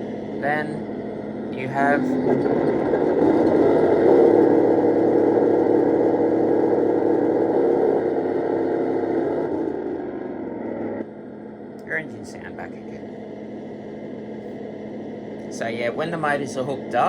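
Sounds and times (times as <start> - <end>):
simulated tank engine from small speaker: 0.0 - 17.0.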